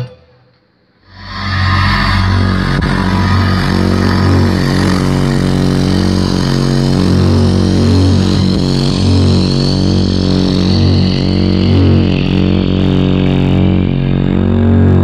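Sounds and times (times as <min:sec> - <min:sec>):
loud bass-heavy music: 0:01.0 - 0:15.0.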